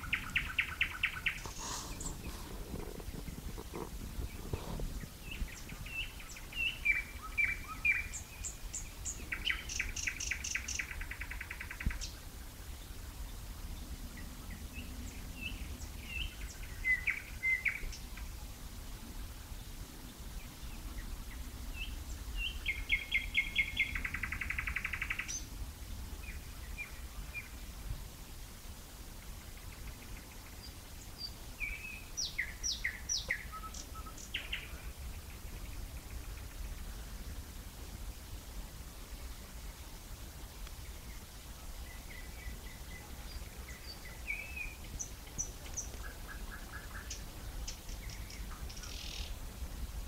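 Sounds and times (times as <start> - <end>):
nightingale singing trills: 0.0 - 3.6, 4.2 - 18.4, 20.1 - 25.6, 26.2 - 27.7, 29.2 - 37.3, 40.6 - 50.0.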